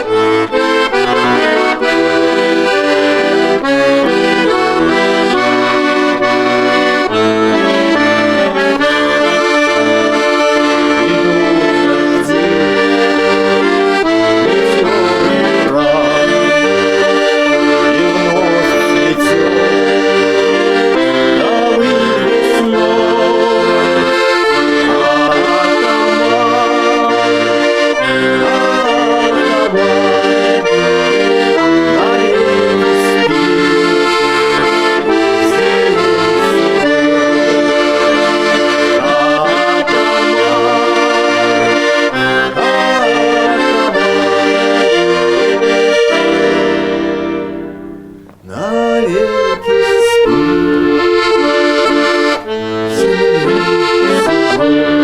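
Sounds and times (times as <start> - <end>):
sustained held chords: 0.0 - 55.0.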